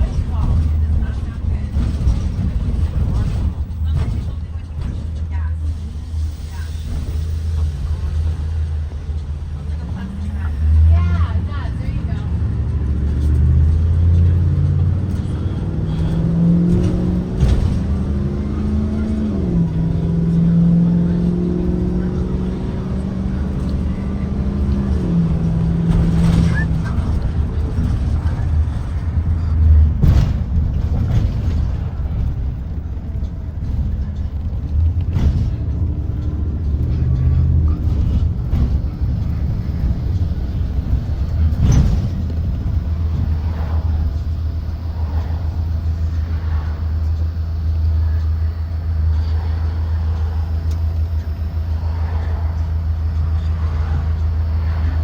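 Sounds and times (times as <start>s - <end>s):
bus engine accelerating: 0.0s - 55.0s.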